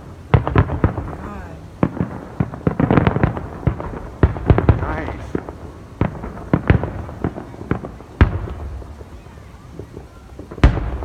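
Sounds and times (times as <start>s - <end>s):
fireworks bangs and crackling: 0.0s - 11.0s
fireworks booms: 0.0s - 11.0s.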